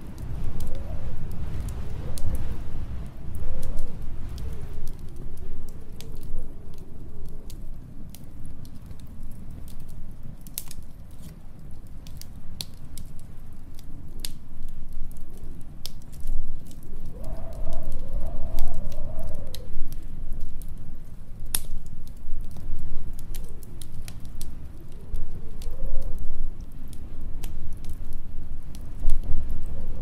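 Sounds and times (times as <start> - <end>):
howling storm wind: 0.0 - 30.0
wood fire crackling and popping: 0.0 - 30.0.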